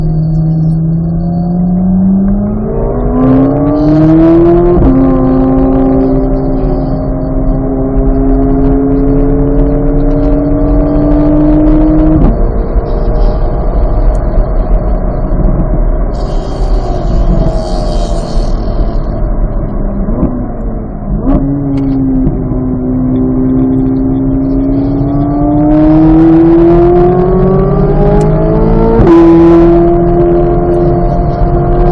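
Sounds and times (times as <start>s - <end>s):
sports car engine accelerating: 0.0s - 31.9s.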